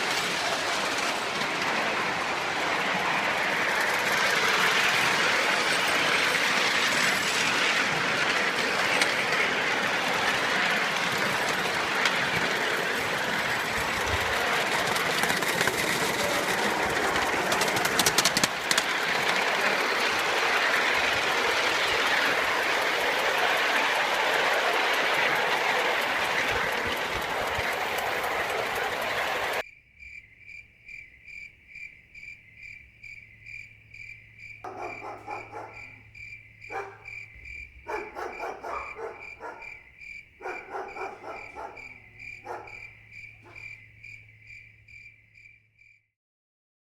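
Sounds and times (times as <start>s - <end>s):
clicks of train on track: 0.0s - 29.7s, 30.5s - 45.2s
steam train rolling rush: 0.0s - 29.7s, 31.6s - 44.6s
crickets chirping: 0.0s - 46.0s.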